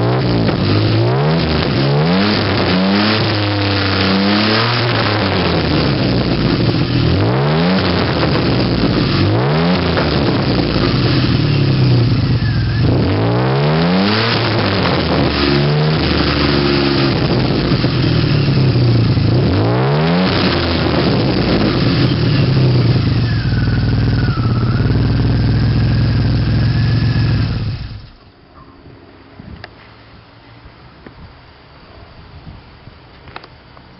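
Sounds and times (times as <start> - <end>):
car engine revving and idling: 0.0 - 28.3.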